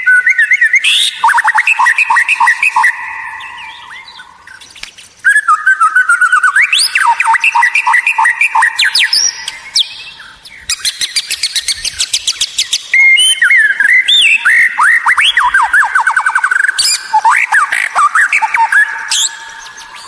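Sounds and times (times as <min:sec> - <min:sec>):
bird singing whistled song: 0:00.0 - 0:20.0.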